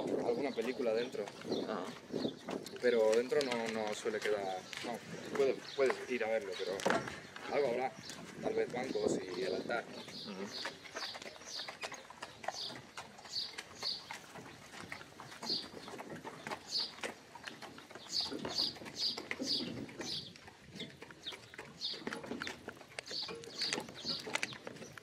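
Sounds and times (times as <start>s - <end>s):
hooves clip-clopping on dirt: 0.0s - 25.0s.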